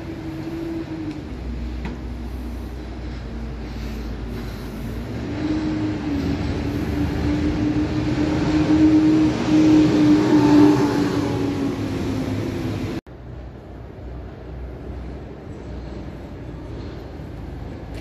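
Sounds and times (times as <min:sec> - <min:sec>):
bus driving past: 0:00.0 - 0:18.0
street background: 0:00.0 - 0:18.0.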